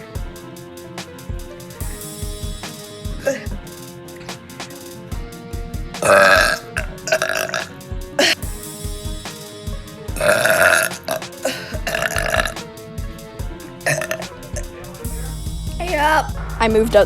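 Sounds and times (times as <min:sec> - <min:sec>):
background music with steady beat: 0:00.0 - 0:17.0.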